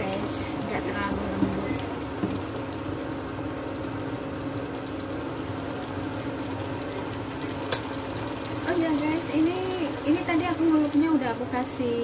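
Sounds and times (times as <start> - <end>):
cooktop hum: 0.0 - 12.0
sauce frying and bubbling in oil: 0.0 - 12.0.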